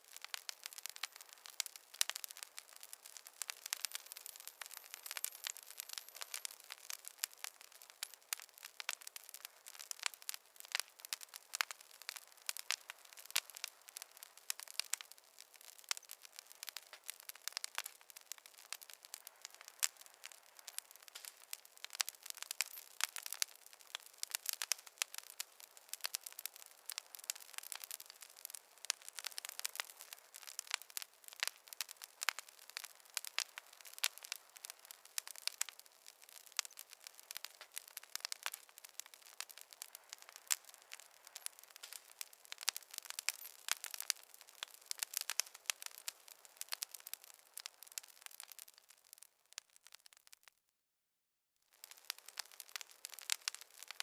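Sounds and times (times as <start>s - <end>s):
wood fire crackling: 0.0s - 50.5s, 51.7s - 54.0s.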